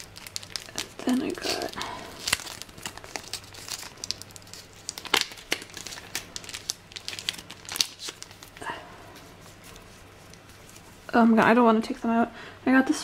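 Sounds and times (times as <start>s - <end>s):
plastic sleeve crinkling: 0.0s - 11.5s.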